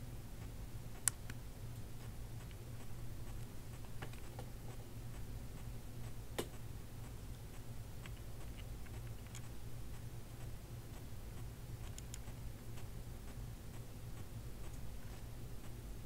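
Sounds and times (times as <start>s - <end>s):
low steady hum: 0.0s - 16.0s
faint clicks and crackles: 0.4s - 15.8s.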